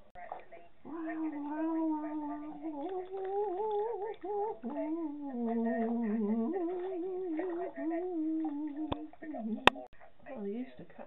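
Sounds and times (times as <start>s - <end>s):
woman humming: 0.9s - 9.9s.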